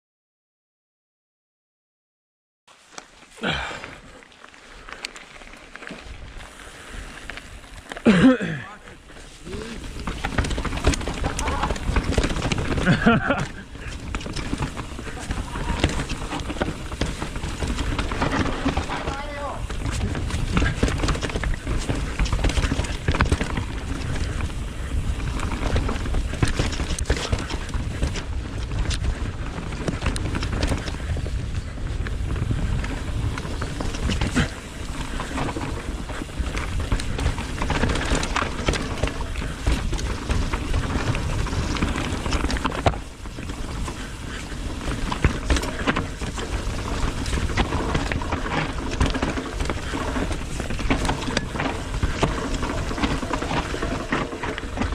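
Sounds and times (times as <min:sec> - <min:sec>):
bike tyres rolling over dirt: 0:02.7 - 0:54.9
bike chain and frame rattling: 0:02.8 - 0:54.9
wind rumble on microphone: 0:09.3 - 0:54.9.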